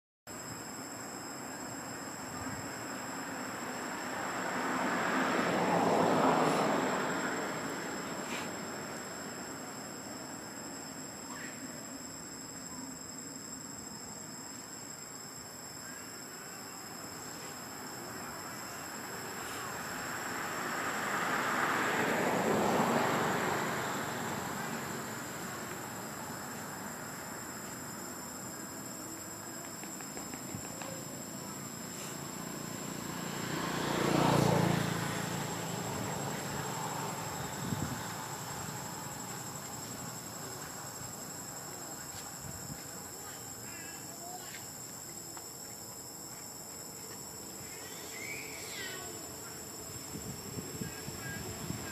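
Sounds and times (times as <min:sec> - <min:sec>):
high-pitched insect chorus: 0:00.3 - 0:51.9
outdoor background hiss: 0:00.3 - 0:51.9.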